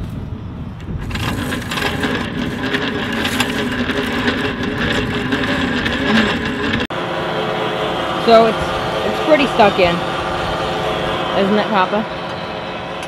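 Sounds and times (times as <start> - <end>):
electric winch motor hum: 0.8 - 13.0.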